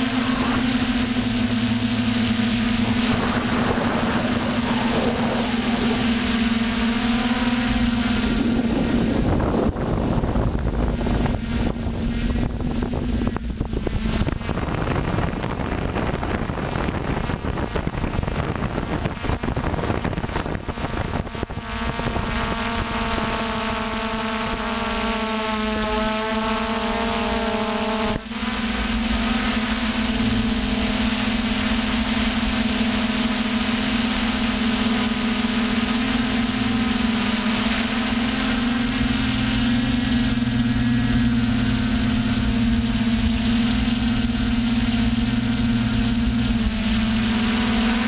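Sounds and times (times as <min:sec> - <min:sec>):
drone motors whining: 0:00.0 - 0:48.0
wind buffeting microphone: 0:00.0 - 0:48.0.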